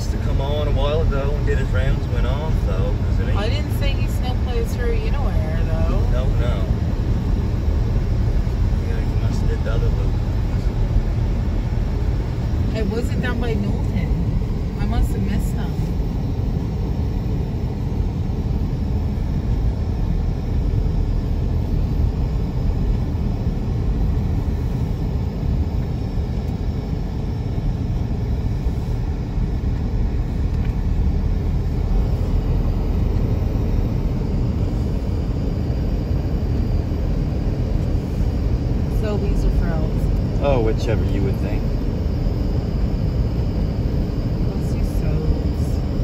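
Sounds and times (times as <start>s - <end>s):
car engine and tyre noise: 0.0s - 46.0s.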